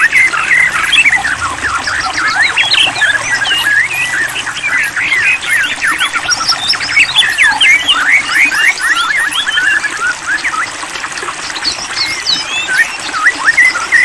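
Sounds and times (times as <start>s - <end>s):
bird song chirps and whistles: 0.0s - 10.8s, 11.4s - 14.0s.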